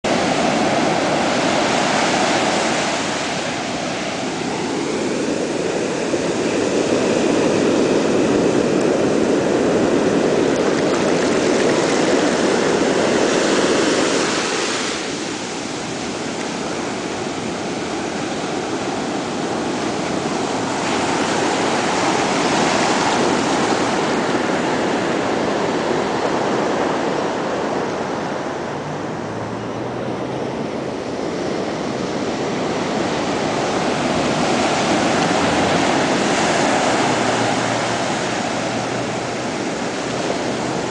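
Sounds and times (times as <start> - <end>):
waves breaking on beach: 0.1 - 40.9.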